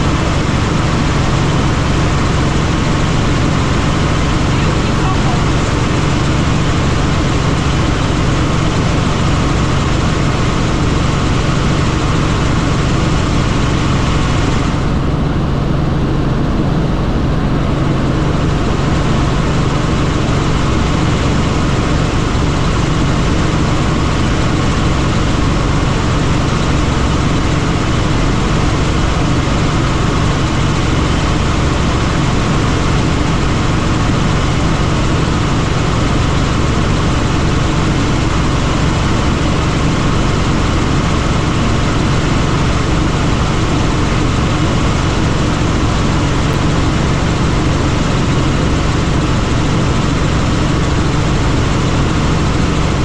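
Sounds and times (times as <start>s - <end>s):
helicopter rotor and engine: 0.0s - 53.0s.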